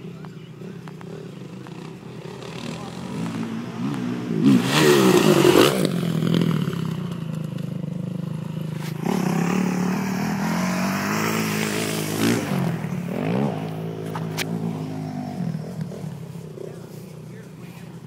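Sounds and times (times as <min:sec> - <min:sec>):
dirt bike engine revving: 0:00.8 - 0:18.0.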